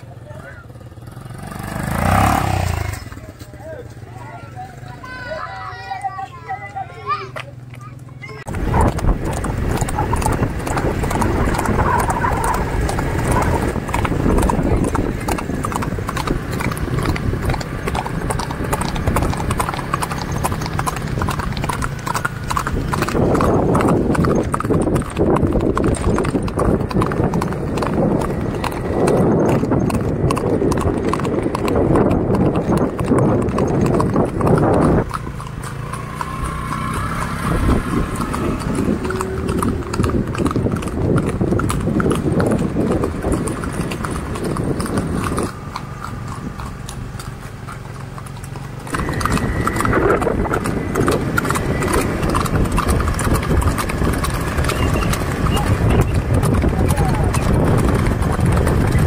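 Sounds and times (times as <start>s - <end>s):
horse hooves on pavement: 0.0s - 59.0s.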